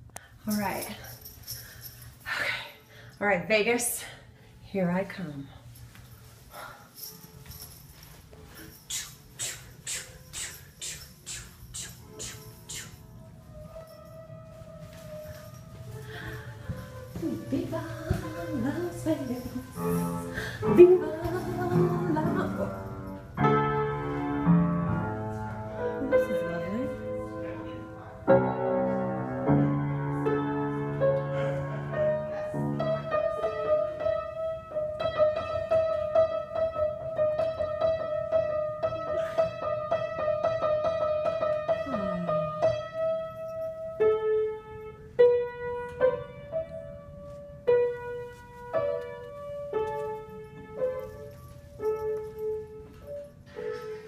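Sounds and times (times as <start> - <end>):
piano playing: 7.0 - 54.0.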